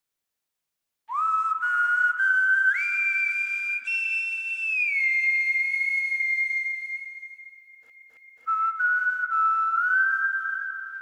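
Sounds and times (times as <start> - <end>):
whistle-like synthesizer tones: 1.1 - 11.0.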